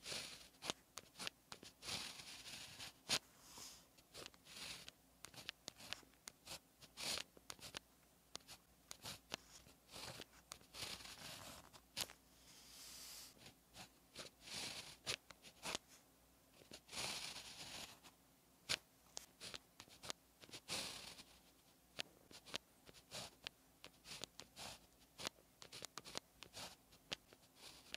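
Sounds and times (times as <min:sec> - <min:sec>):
pen scratching on paper: 0:00.0 - 0:16.0, 0:16.6 - 0:18.1, 0:18.7 - 0:27.9.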